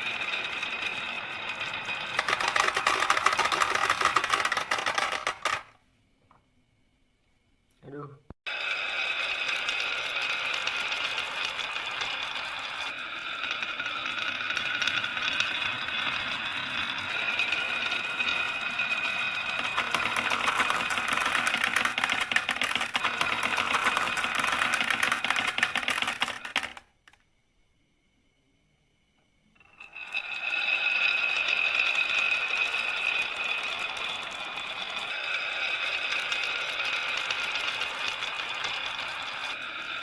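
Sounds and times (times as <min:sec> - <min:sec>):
marbles clattering down a track: 0:00.0 - 0:05.8, 0:08.5 - 0:27.0, 0:29.7 - 0:40.0.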